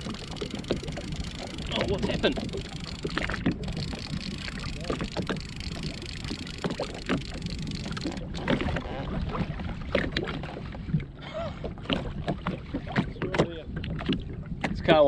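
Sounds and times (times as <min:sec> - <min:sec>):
small waves slapping a hull: 0:00.0 - 0:15.0
wind rumble on microphone: 0:00.0 - 0:15.0.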